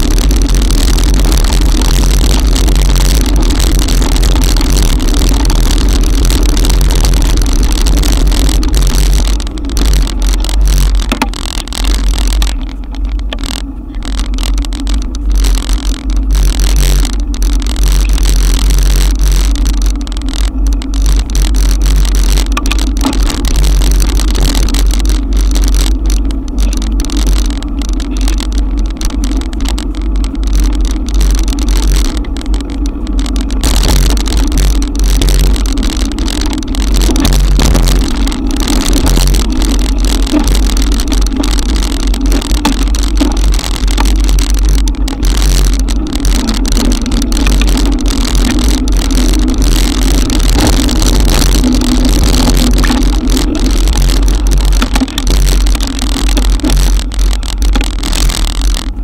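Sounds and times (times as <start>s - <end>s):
rain hissing: 0.0s - 59.0s
wavering hum: 0.0s - 59.0s
wet tyres on road: 0.0s - 59.0s.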